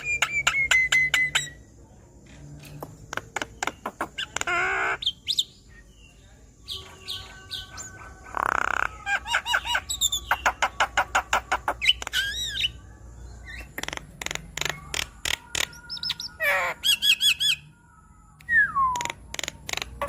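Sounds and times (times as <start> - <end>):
bird chattering song: 0.0 - 17.7, 18.4 - 20.0.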